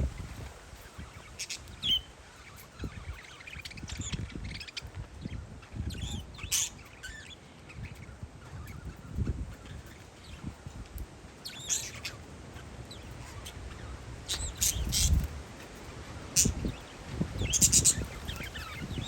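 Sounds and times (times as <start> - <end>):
wind rumble on microphone: 0.0 - 19.0
parakeets chirping: 0.8 - 10.6, 11.4 - 15.3, 16.1 - 19.0.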